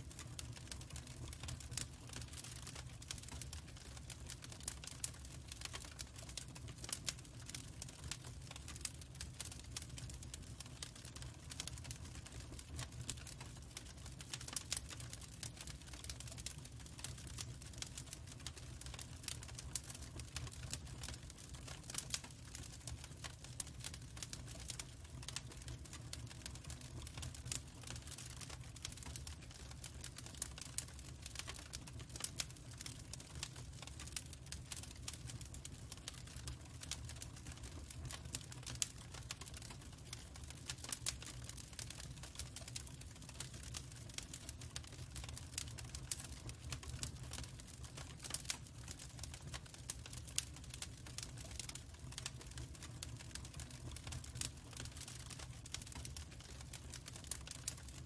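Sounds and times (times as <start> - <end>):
logs crackling and popping: 0.0 - 58.0
low rumble of fire: 0.0 - 58.0.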